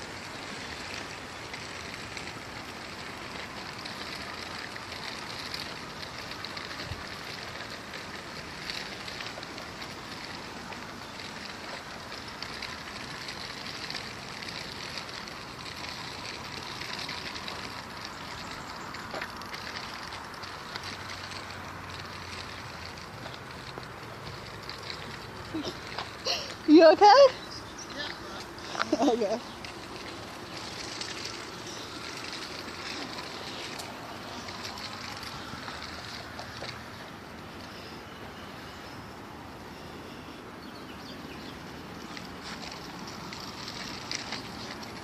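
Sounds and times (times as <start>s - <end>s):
footsteps on a trail: 0.0s - 38.0s, 40.7s - 45.0s.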